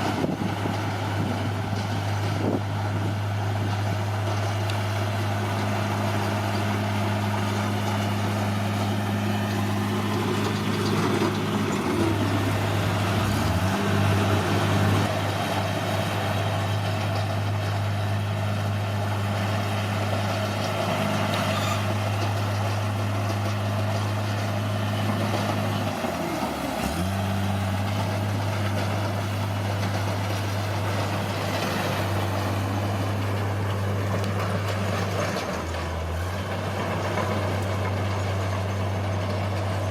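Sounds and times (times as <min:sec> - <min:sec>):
bulldozer diesel engine: 0:00.0 - 0:39.9
rough grinding noise: 0:00.0 - 0:39.9.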